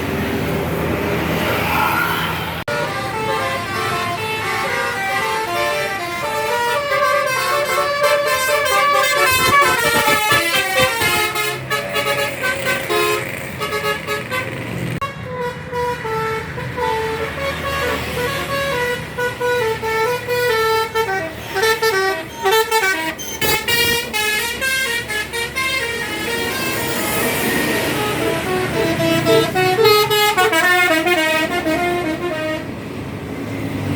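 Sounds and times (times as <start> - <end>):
bus engines running: 0.0 - 33.9
multi-tone bus horns melody: 2.6 - 33.1.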